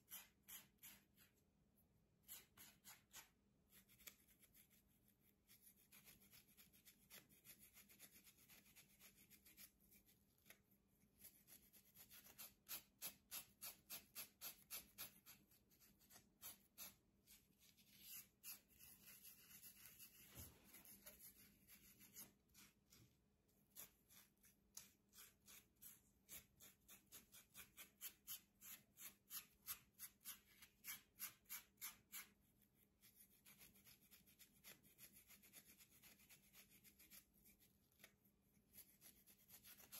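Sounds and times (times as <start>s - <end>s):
comb scratching scalp: 0.0s - 1.4s, 2.2s - 10.6s, 11.2s - 32.4s, 33.0s - 39.9s.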